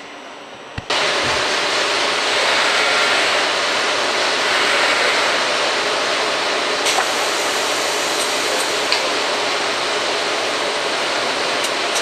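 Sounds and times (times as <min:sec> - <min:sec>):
bandsaw machine rushing noise: 0:00.9 - 0:12.0.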